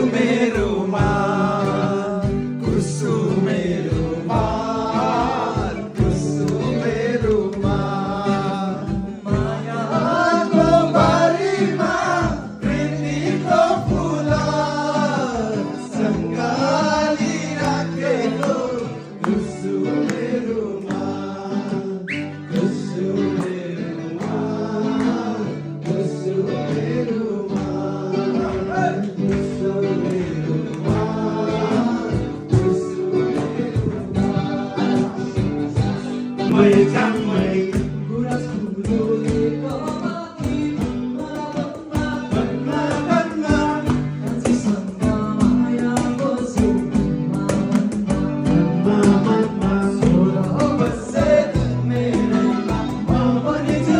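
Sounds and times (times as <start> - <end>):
men singing in unison: 0.0 - 53.9
strummed acoustic guitar: 0.0 - 53.9.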